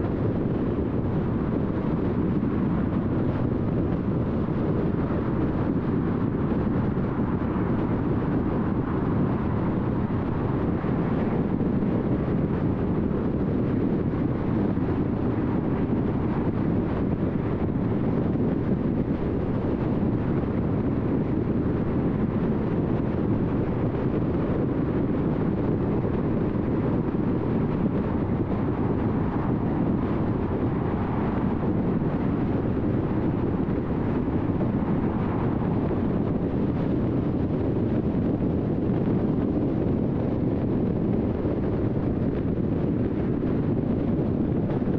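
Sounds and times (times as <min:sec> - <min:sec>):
car road and tyre noise: 0:00.0 - 0:44.9.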